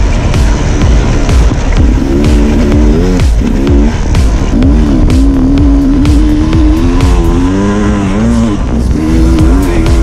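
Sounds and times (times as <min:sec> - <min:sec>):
dirt bike engine revving: 0:00.0 - 0:10.0
knocks and thumps from rough track: 0:00.0 - 0:10.0.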